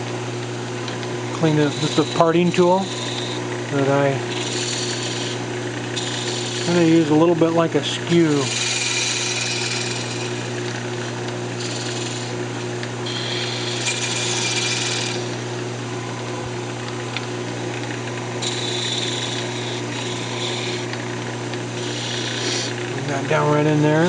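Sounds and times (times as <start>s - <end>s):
tool cutting spinning wood: 0.0s - 24.0s
wood lathe humming: 0.0s - 24.0s.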